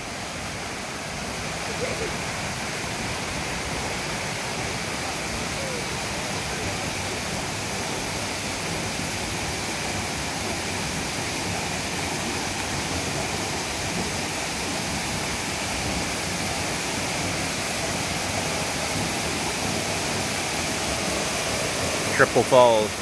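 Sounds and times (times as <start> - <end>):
creek flowing: 0.0 - 23.0
waterfall rushing: 0.0 - 23.0.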